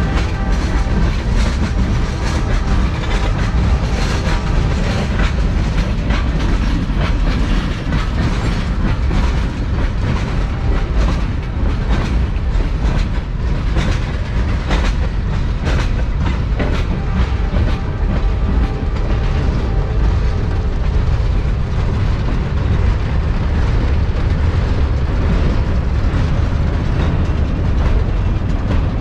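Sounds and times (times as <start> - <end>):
freight train rumbling past: 0.0 - 29.0
wheels clacking over rail joints: 0.0 - 29.0.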